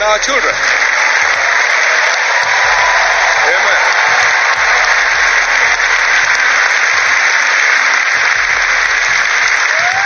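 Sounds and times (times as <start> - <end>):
congregation applauding: 0.0 - 10.0.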